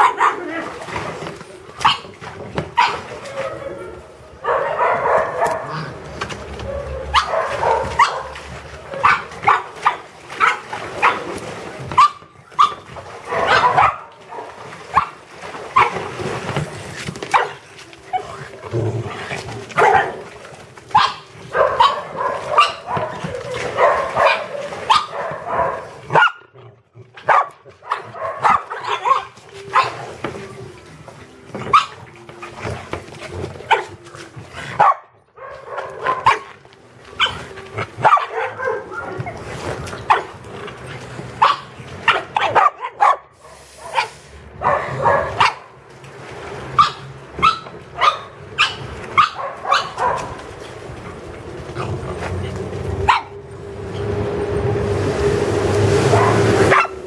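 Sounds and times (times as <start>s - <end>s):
dogs barking and yipping: 0.0s - 0.8s, 1.8s - 16.1s, 17.2s - 18.4s, 19.6s - 26.5s, 27.2s - 30.1s, 31.6s - 32.8s, 33.5s - 34.0s, 34.8s - 45.8s, 46.7s - 53.4s, 56.0s - 57.0s.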